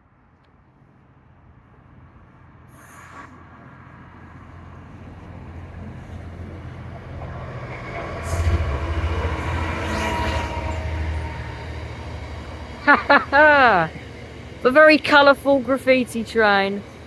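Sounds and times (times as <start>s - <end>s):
high train whine: 0.0s - 17.0s
train rumble passing: 0.6s - 17.0s.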